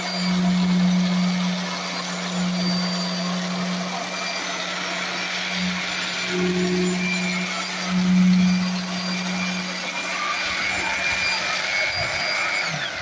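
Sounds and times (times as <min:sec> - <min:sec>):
concrete vibrator humming: 0:00.0 - 0:13.0.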